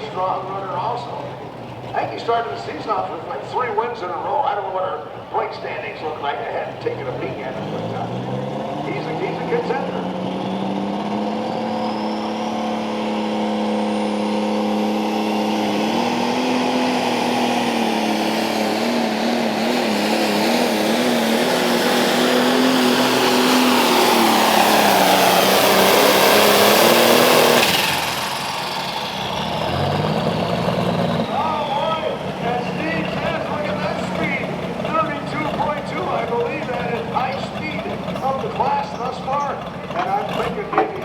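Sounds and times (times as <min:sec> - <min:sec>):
diesel tractor engine under load: 0:00.0 - 0:41.0
turbo whine: 0:05.2 - 0:41.0.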